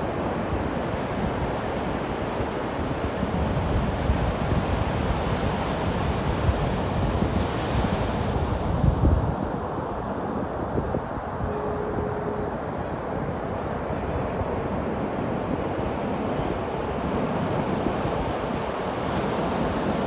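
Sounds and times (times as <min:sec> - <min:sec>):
wind buffeting microphone: 0:03.3 - 0:20.0.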